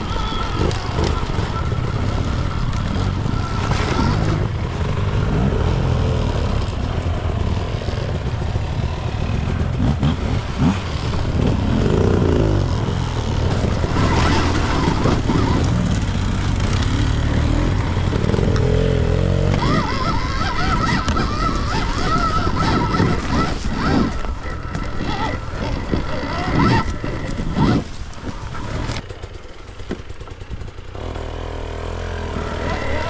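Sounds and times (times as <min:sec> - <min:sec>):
electric dirt bike riding off-road: 0:00.0 - 0:33.0.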